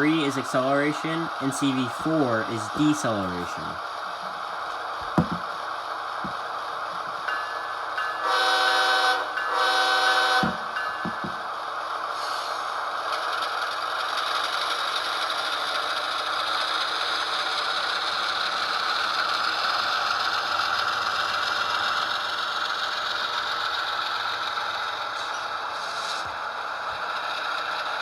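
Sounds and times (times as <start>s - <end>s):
diesel engine drone from small speaker: 0.0s - 11.2s, 12.4s - 28.0s.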